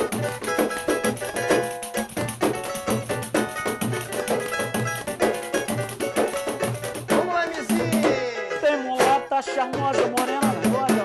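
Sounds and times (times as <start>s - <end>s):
percussion beat: 0.0s - 11.0s
small guitar playing samba: 0.0s - 11.0s.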